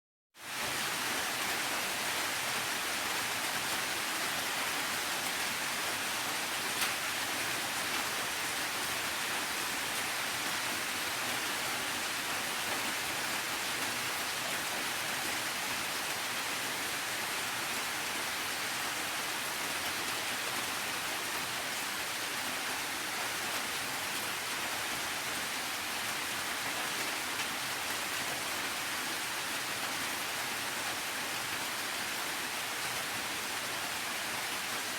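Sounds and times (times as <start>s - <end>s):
steady rain: 0.4s - 34.9s.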